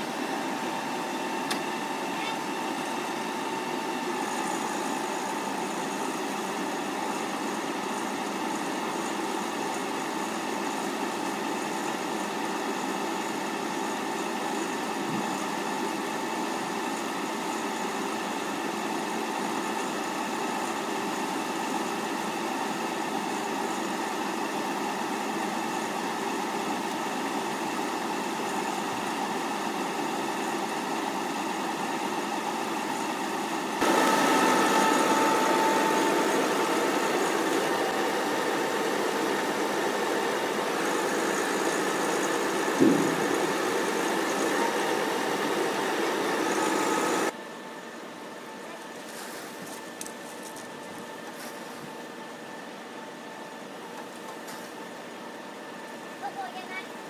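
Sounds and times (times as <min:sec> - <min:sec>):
tractor engine running steadily: 0:00.0 - 0:57.0.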